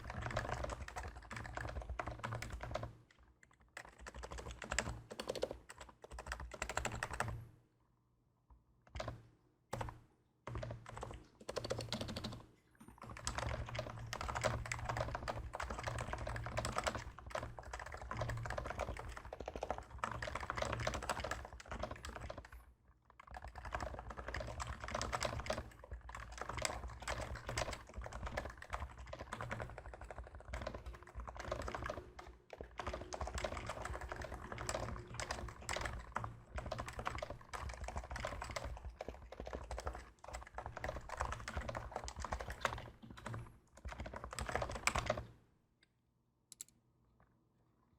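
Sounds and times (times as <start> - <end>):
deep keyboard keystrokes: 0.0 - 7.5, 8.9 - 22.6, 23.2 - 45.4.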